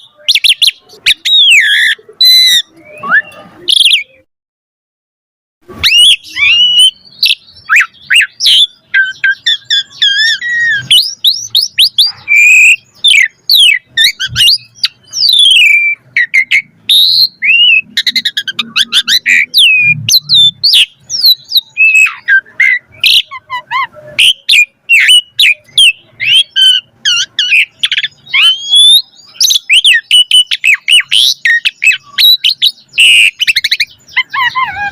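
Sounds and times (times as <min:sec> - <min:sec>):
starling singing: 0:00.0 - 0:04.3, 0:05.6 - 0:34.9.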